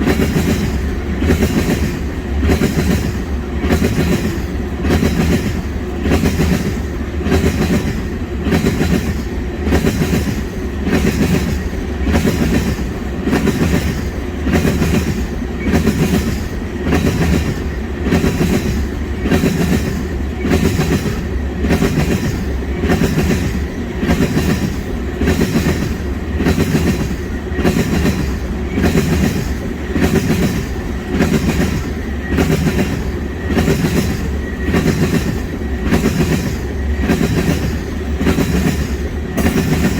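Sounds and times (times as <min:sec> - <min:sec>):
freight train rumble: 0:00.0 - 0:39.9
train wheels clattering over rail joints: 0:00.0 - 0:39.9.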